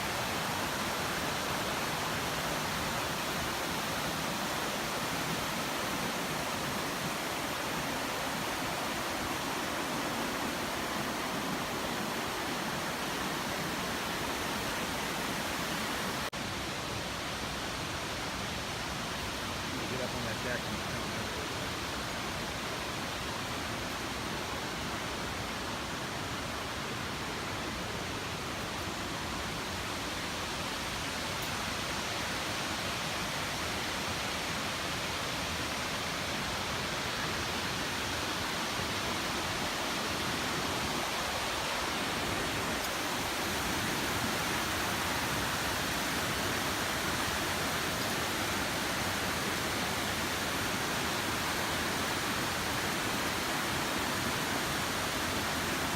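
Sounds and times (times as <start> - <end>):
waterfall roaring: 0.0 - 55.9.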